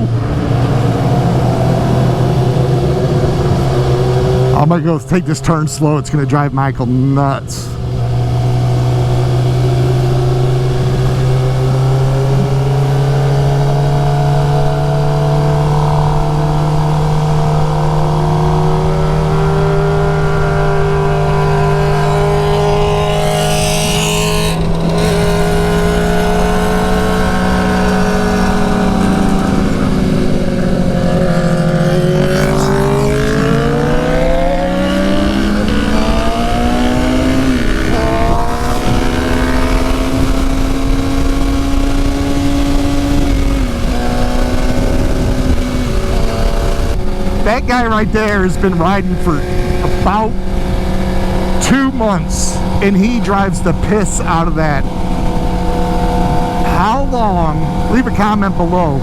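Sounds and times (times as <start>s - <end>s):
wind noise: 0.0s - 5.2s, 7.7s - 58.3s
motorcycle engine running: 7.6s - 59.0s.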